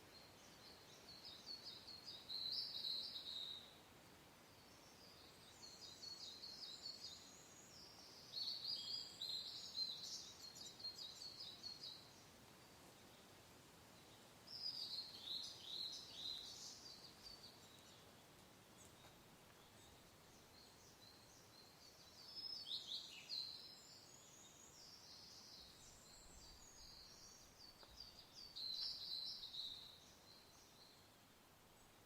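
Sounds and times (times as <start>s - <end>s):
faint wind hiss: 0.0s - 32.0s
songbirds chirping: 0.0s - 32.0s.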